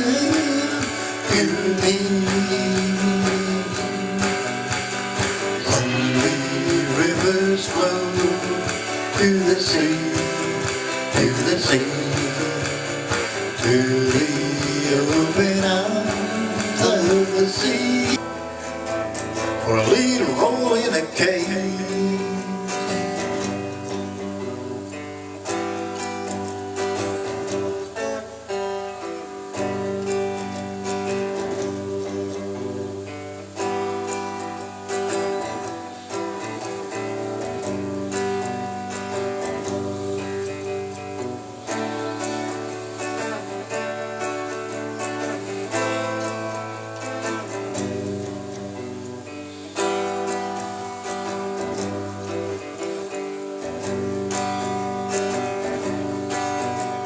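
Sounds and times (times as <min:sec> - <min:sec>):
guitar strumming chords: 0:00.0 - 0:57.0.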